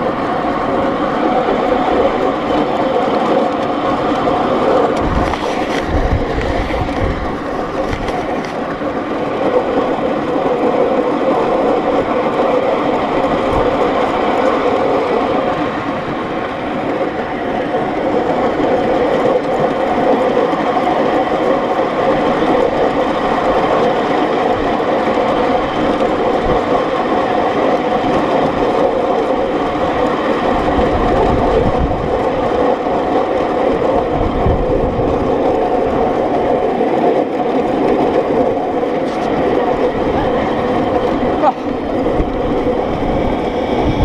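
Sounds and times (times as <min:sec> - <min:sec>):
miniature steam locomotive running: 0:00.0 - 0:44.0
wheels on rails: 0:00.0 - 0:44.0.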